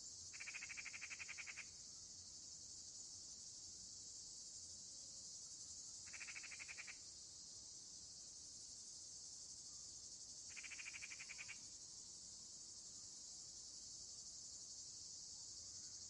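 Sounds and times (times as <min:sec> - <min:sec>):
crickets and insects chirping: 0:00.0 - 0:16.0.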